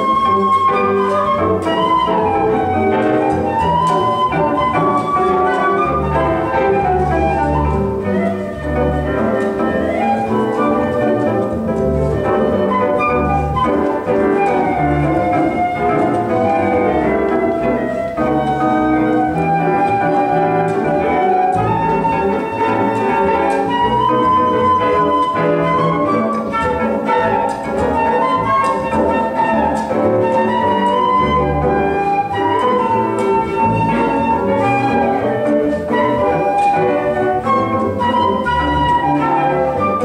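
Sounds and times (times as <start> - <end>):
flute melody: 0.0 - 40.0
guitar accompanying: 0.0 - 40.0
piano chords: 0.0 - 40.0
plucked upright bass: 0.0 - 40.0.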